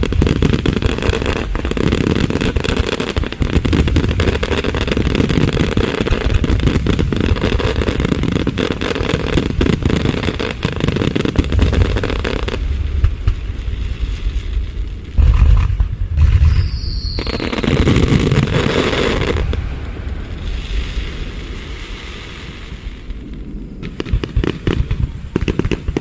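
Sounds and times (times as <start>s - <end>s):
fireworks crackling: 0.0s - 26.0s
low rumble of firework bursts: 0.0s - 26.0s.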